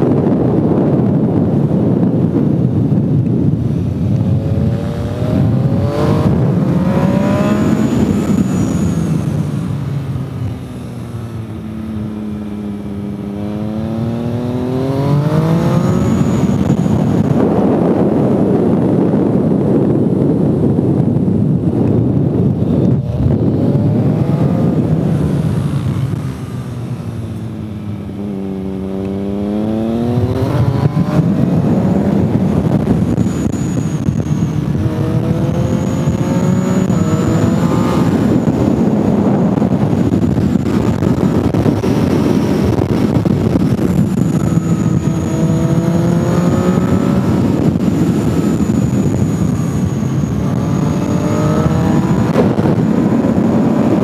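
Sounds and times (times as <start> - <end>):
motorcycle engine revving: 0.0 - 54.0
wind rush: 0.0 - 54.0.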